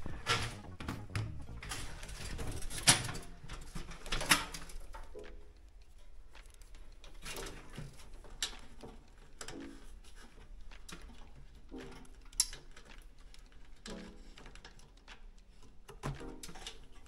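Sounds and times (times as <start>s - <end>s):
wires rustling and scraping: 0.0s - 17.0s.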